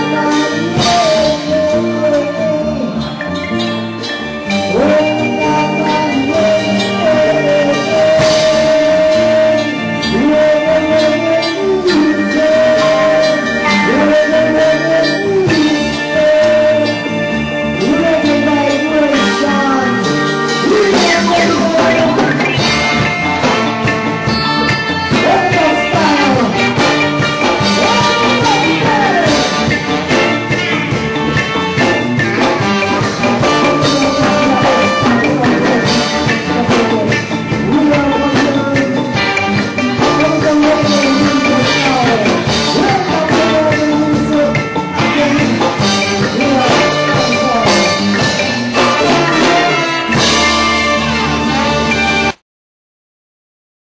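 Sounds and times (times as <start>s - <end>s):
live reggae band playing: 0.0s - 52.4s.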